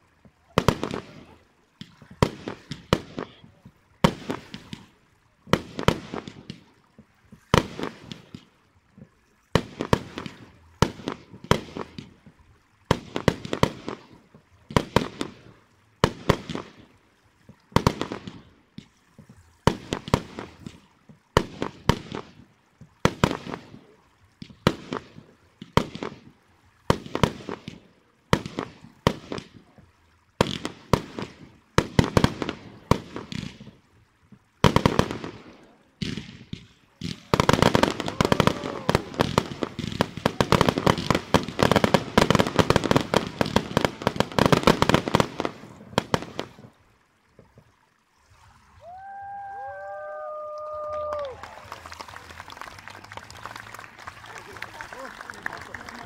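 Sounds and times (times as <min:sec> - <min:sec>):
fireworks bursting and crackling: 0:00.0 - 0:47.7, 0:48.4 - 0:56.0.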